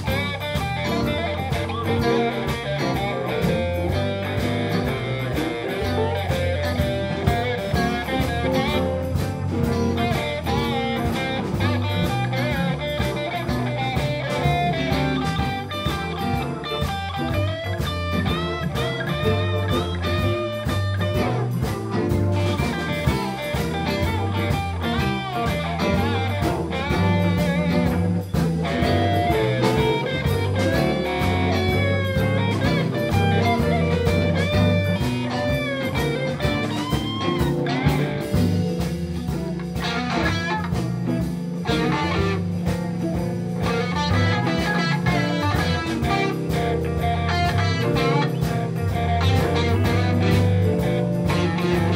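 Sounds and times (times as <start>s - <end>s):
electric guitar lead with bent notes: 0.0s - 51.9s
live blues band playing: 0.0s - 51.9s.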